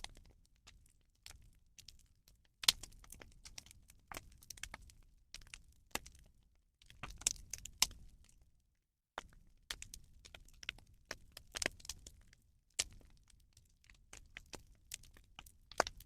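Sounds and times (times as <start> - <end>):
fire crackling: 0.0 - 8.4, 9.2 - 16.0.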